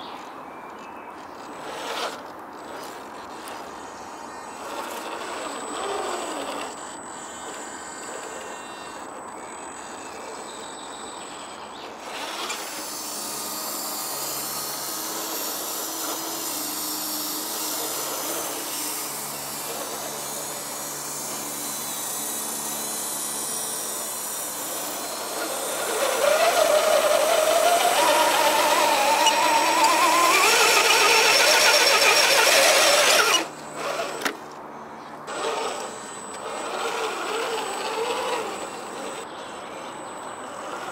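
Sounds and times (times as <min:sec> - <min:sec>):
rc truck electric motor whining: 0:00.7 - 0:40.9.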